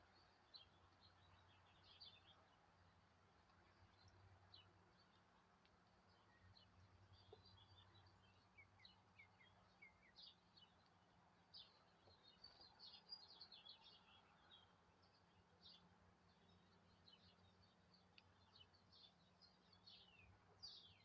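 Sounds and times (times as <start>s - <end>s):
songbirds chirping and twittering: 0.0s - 21.0s.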